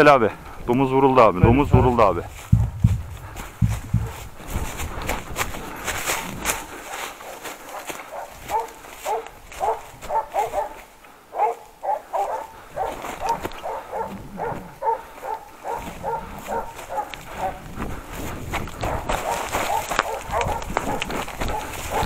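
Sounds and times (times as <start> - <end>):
dogs barking: 1.4 - 4.8, 6.8 - 22.0.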